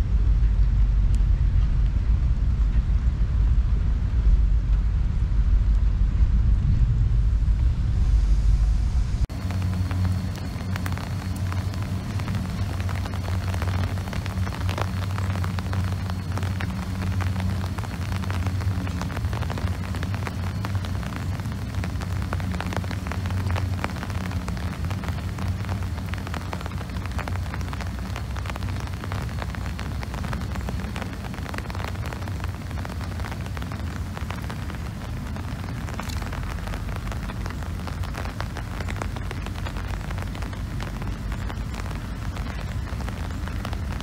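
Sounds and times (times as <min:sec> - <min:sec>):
low hum: 0:00.0 - 0:44.0
rain pattering: 0:00.0 - 0:44.0.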